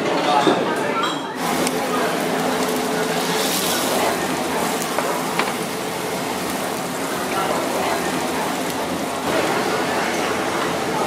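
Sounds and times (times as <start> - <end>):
fish sizzling in hot fat: 1.4 - 11.0.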